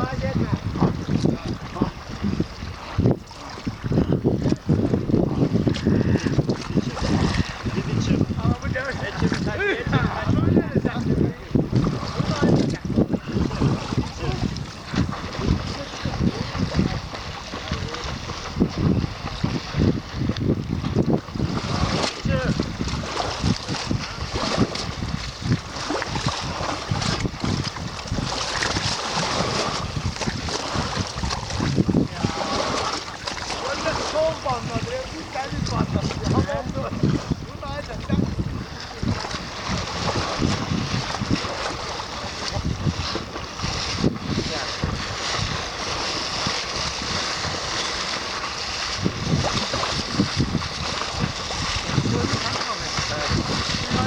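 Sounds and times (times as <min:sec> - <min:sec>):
sea waves on shore: 0:00.0 - 0:54.0
wind buffeting microphone: 0:00.0 - 0:54.0.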